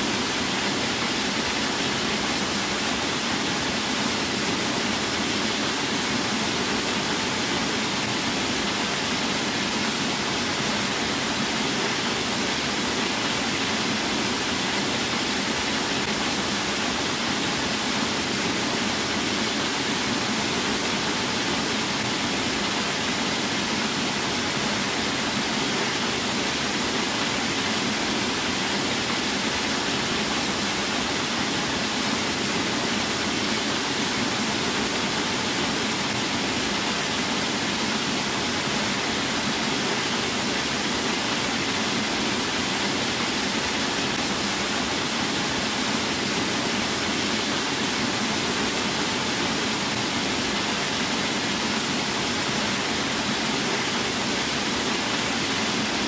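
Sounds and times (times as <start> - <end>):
small waterfall pouring: 0.0 - 56.0.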